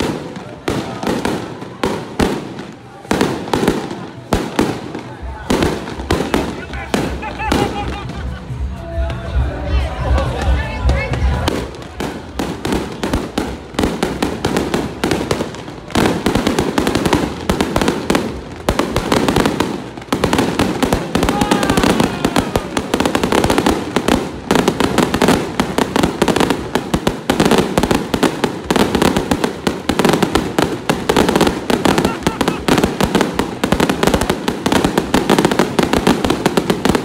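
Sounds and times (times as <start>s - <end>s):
firecrackers popping: 0.0s - 8.7s, 10.1s - 37.0s.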